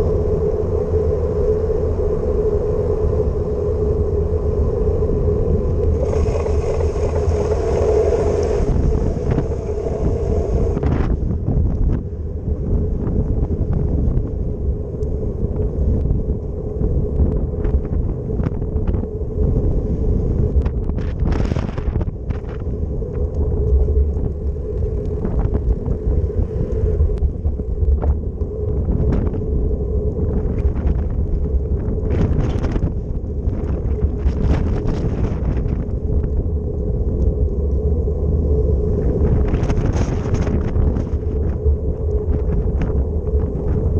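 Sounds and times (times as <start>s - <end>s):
constant hum: 0.0s - 43.9s
wind buffeting microphone: 0.0s - 43.9s.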